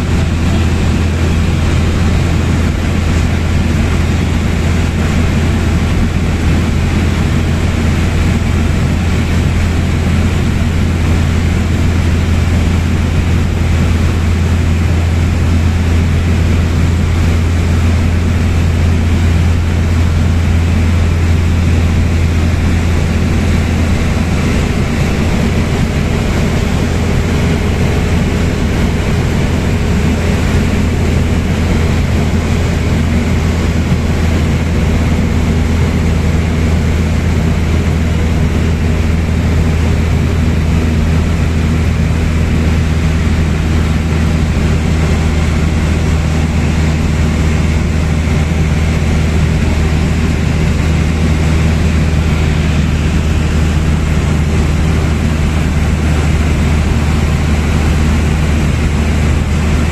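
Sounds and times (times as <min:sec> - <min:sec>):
light aircraft engine drone: 0:00.0 - 0:59.9.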